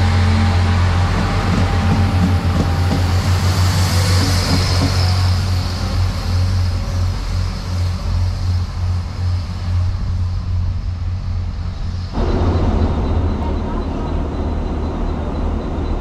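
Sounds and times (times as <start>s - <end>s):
diesel train hum: 0.0s - 16.0s
train wheel and running noise: 0.0s - 16.0s.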